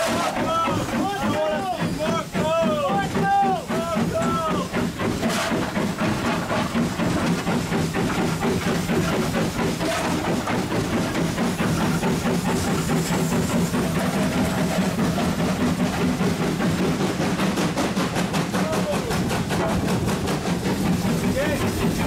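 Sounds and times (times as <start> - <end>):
steam locomotive exhaust beat: 0.0 - 22.0.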